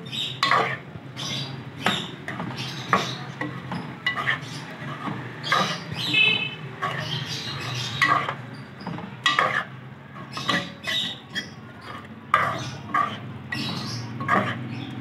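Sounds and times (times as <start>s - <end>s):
metal spoon scraping a pot: 0.1s - 15.0s.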